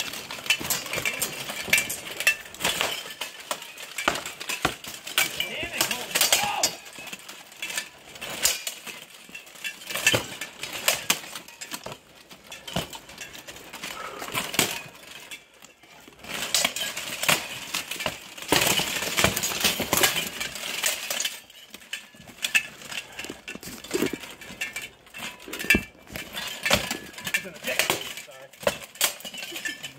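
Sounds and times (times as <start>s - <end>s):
plate armour clanking: 0.0s - 29.9s.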